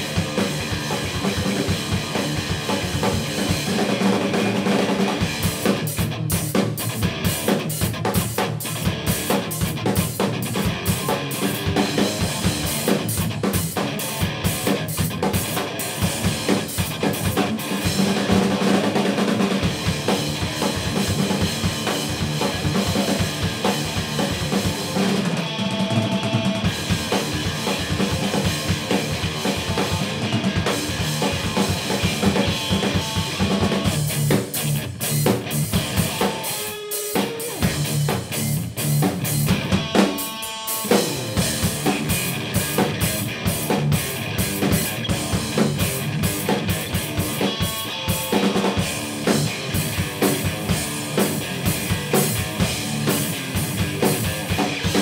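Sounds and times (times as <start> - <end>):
drum kit kick and snare: 0.0 - 55.0
instrumental rock jam: 0.0 - 55.0.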